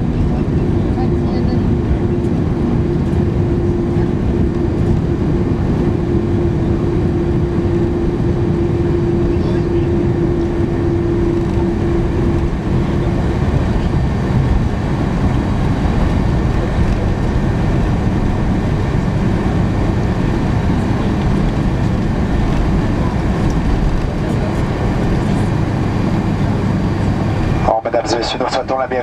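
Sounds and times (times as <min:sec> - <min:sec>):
aircraft engines rumbling: 0:00.0 - 0:29.0
steady hum: 0:00.0 - 0:29.0.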